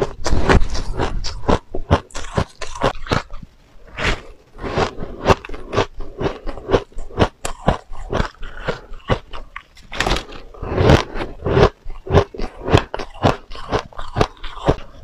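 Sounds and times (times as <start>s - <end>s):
chewing crunchy shaved ice: 0.0s - 3.4s, 4.0s - 15.0s.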